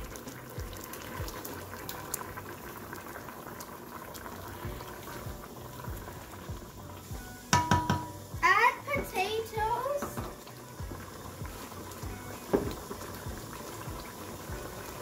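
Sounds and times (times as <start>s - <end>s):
curry bubbling in pot: 0.0s - 15.0s.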